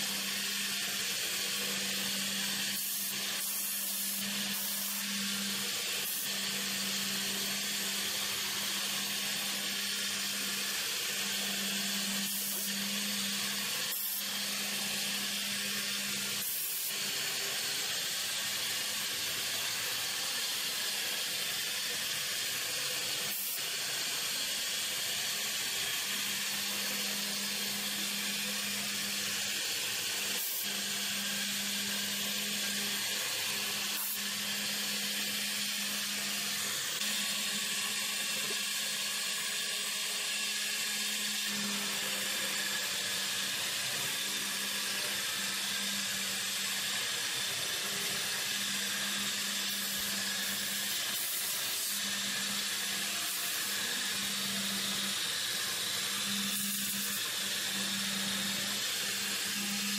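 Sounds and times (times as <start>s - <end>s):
router spindle high hiss: 0.0s - 59.9s.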